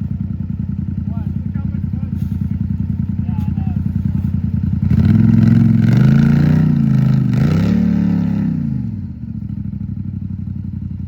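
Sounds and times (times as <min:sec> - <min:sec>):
off-road vehicle engine revving: 0:00.0 - 0:09.5.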